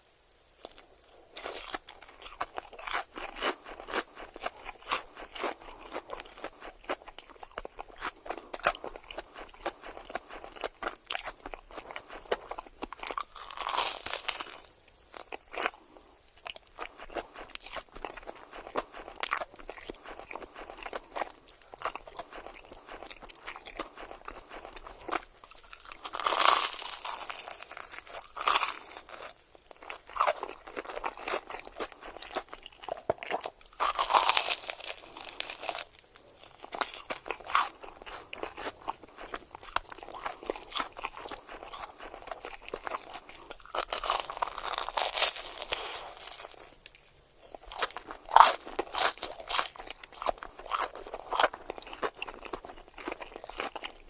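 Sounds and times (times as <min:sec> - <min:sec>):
crunching and chewing crispy food: 0:00.0 - 0:54.0.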